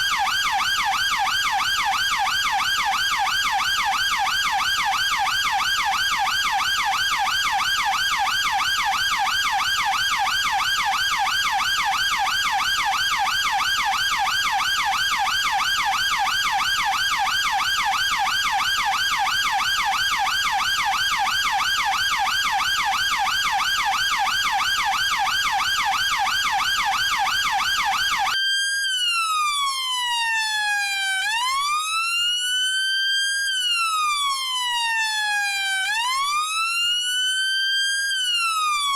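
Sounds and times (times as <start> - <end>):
police siren yelp and wail: 0.0 - 38.9.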